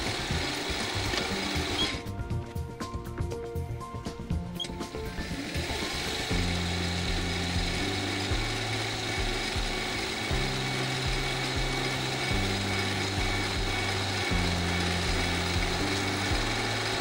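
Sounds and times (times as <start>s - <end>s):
lathe humming with high whine: 0.0s - 2.1s, 4.7s - 17.0s
low background music: 0.0s - 17.0s.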